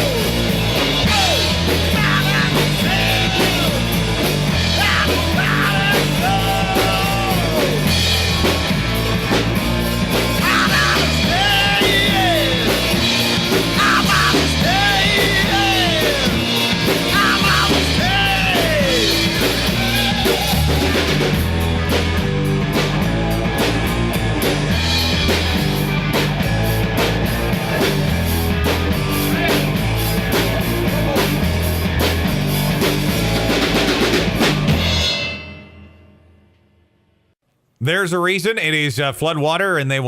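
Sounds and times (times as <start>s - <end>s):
blues-rock band playing: 0.0s - 35.2s.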